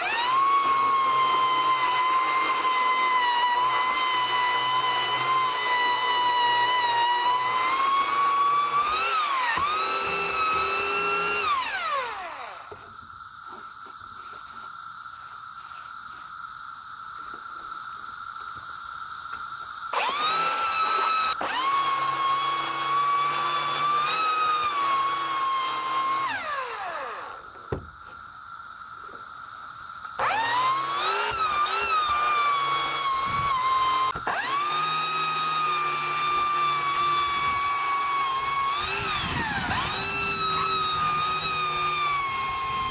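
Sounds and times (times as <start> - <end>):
belt sander whining: 0.0 - 13.6, 19.9 - 28.0, 30.1 - 42.9.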